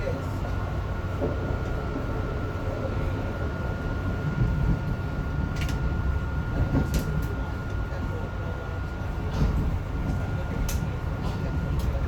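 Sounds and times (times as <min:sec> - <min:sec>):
train rumble on track: 0:00.0 - 0:12.0.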